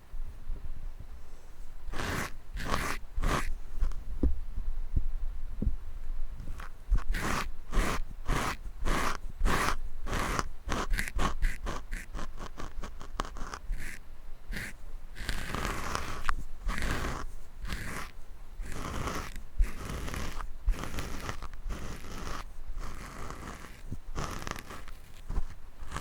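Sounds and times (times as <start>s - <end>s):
scratching on microphone grille: 1.2s - 4.1s, 6.4s - 26.0s.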